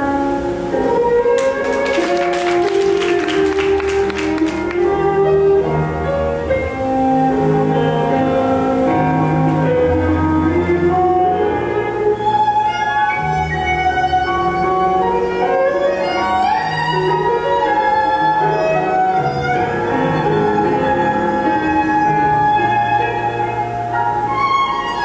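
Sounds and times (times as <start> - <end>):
violin melody: 0.0 - 25.0.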